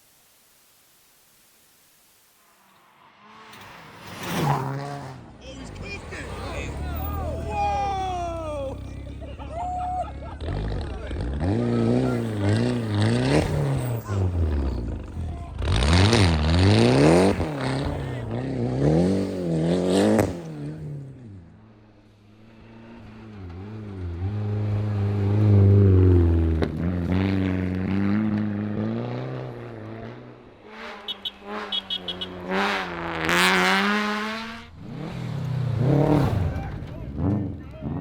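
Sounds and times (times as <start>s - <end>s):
car passing loudly: 2.4s - 38.0s
rally car engine revving: 2.7s - 38.0s.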